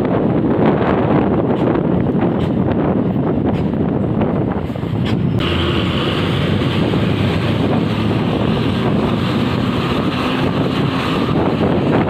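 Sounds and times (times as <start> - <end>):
vehicle engines running: 0.0 - 12.0
wind buffeting microphone: 0.0 - 12.0.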